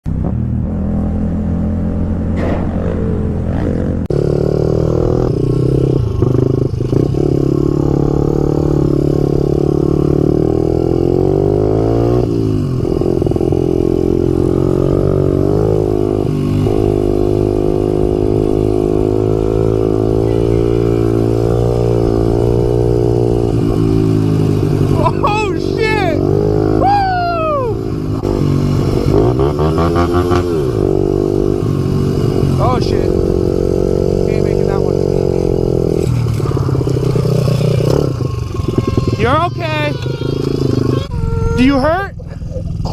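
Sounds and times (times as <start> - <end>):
motorcycle engine revving: 0.1 - 42.9.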